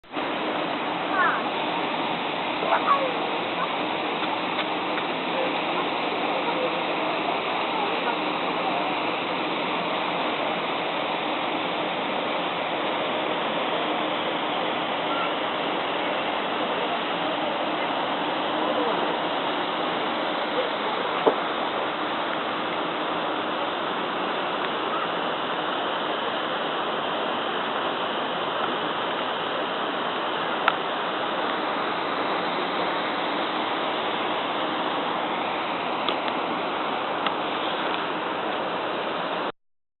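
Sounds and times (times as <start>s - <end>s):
waterfall and river rushing: 0.0s - 39.5s.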